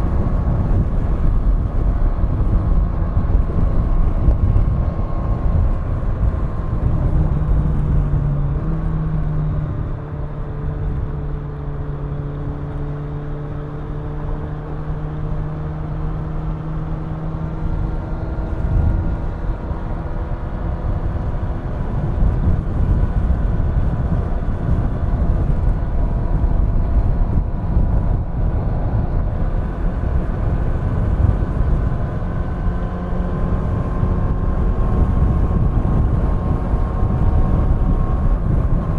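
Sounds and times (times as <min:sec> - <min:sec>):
motorcycle engine cruising: 0:00.0 - 0:38.9
wind and road rumble: 0:00.0 - 0:38.9.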